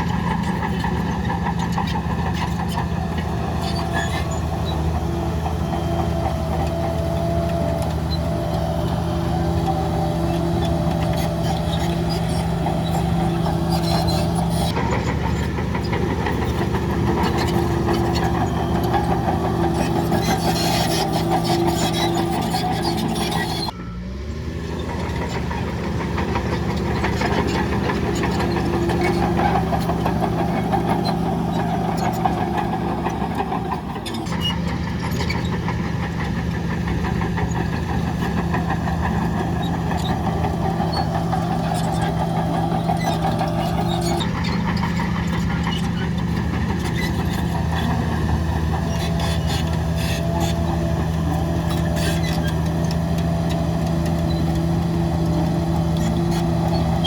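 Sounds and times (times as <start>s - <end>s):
diesel machinery engine hum: 0.0s - 57.0s.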